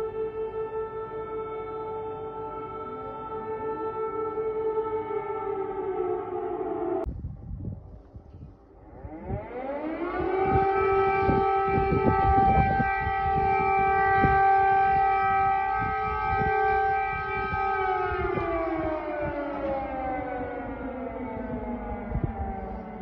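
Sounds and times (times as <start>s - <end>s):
air-raid siren: 0.0s - 23.0s.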